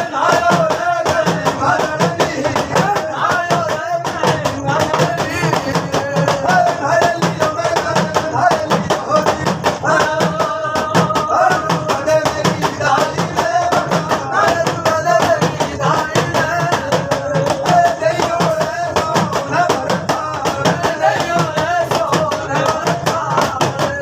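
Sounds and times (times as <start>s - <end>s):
fast percussion beat: 0.0s - 24.0s
man singing folk melody: 0.0s - 24.0s.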